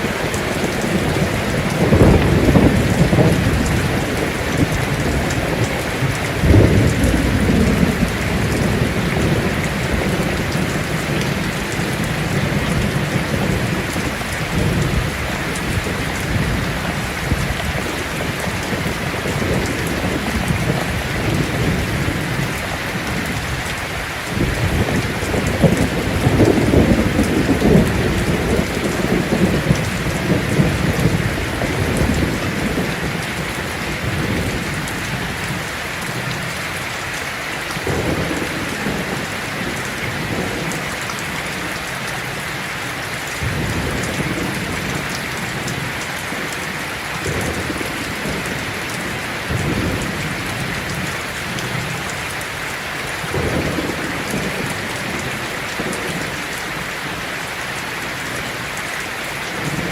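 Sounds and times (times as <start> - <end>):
rolling thunder: 0.0 - 36.4, 43.4 - 52.2, 53.2 - 56.5
heavy rain on a tin roof: 0.0 - 59.9.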